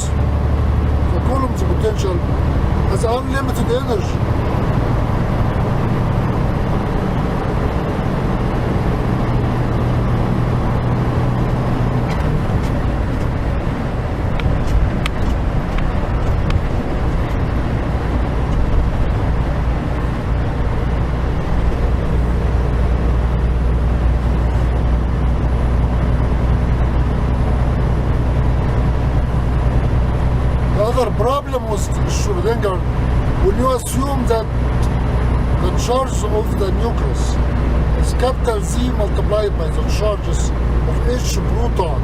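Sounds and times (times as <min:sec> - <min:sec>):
road noise: 0:00.0 - 0:42.0
truck engine: 0:00.0 - 0:42.0.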